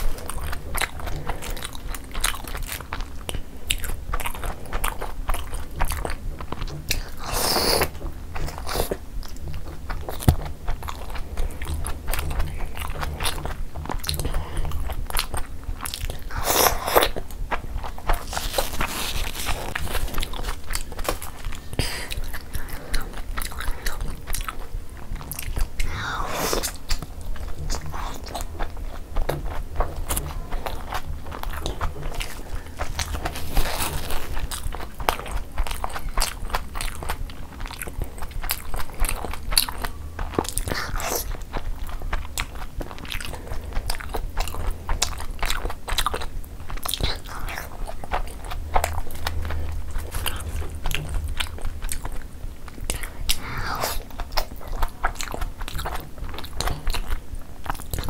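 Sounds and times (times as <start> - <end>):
wet chewing and mouth sounds: 0.0 - 58.0.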